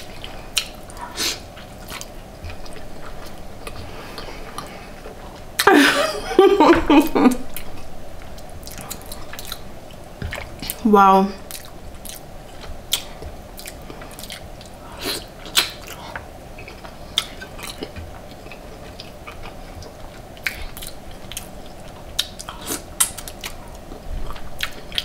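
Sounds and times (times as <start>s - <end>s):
mouth chewing food: 0.0s - 5.7s, 7.3s - 25.0s.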